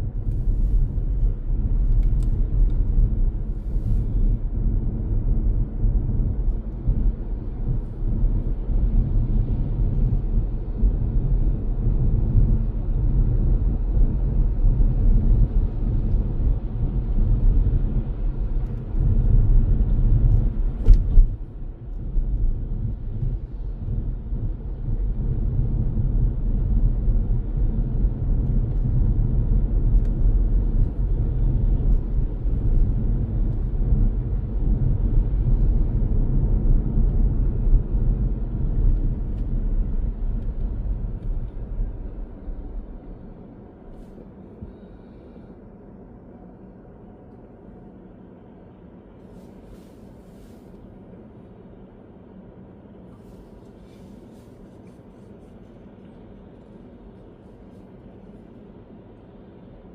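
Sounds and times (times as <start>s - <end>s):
engine and road noise rumble: 0.0s - 59.9s.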